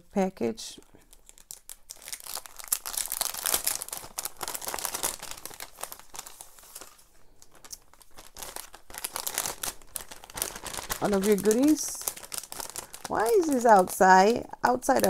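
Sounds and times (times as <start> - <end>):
packaging rustling and crackling: 1.0 - 15.0.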